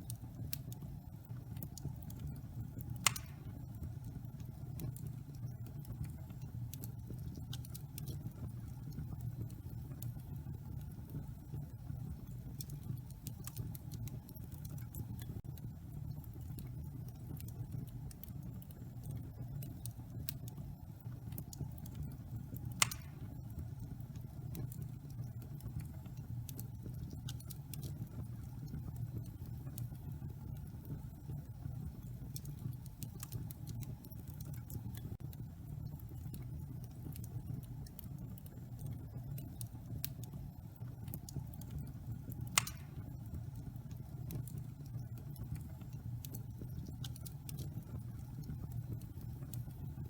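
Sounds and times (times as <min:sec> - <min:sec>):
fire popping: 0:00.0 - 0:50.0
wood fire crackling: 0:00.0 - 0:50.0.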